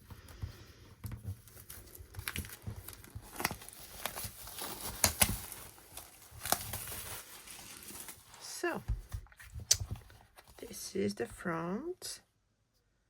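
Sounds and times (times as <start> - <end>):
packaging crinkling and rustling: 0.0 - 10.8.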